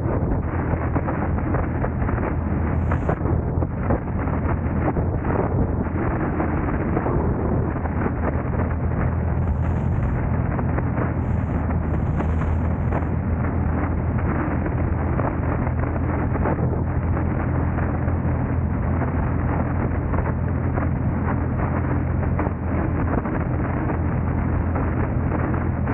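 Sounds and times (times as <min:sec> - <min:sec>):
road and engine rumble: 0:00.0 - 0:25.9
wind buffeting microphone: 0:00.0 - 0:25.9.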